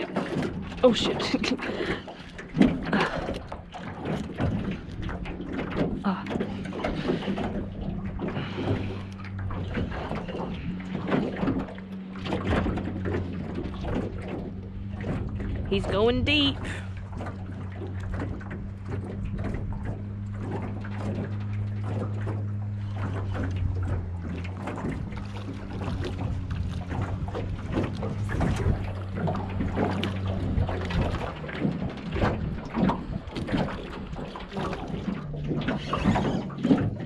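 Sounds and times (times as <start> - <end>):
wind and water: 0.0 - 37.0.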